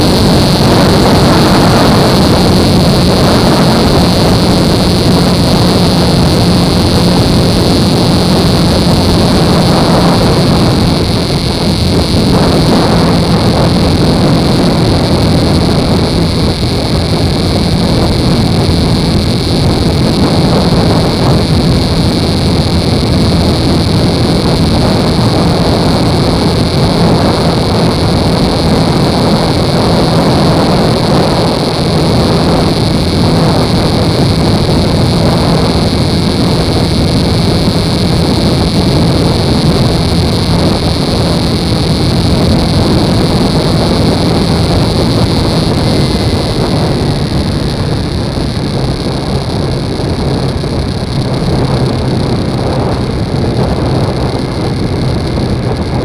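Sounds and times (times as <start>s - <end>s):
low engine hum: 0.0s - 56.0s
wind and road noise: 0.0s - 56.0s.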